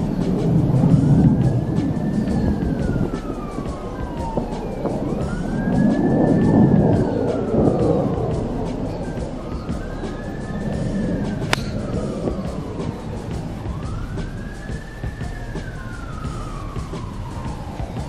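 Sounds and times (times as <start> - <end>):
wailing siren: 0.0 - 18.0.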